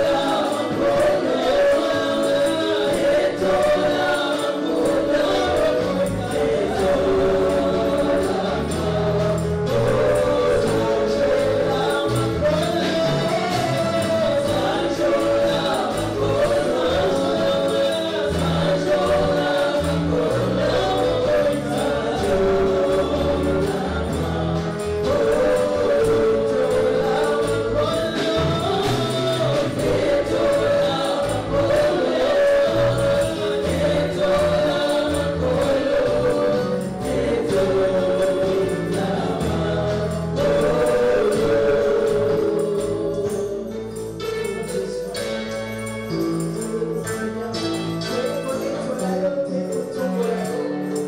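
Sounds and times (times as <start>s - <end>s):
choir singing gospel: 0.0s - 51.0s
tambourine-like percussion: 0.0s - 51.0s
bass line: 4.8s - 48.8s.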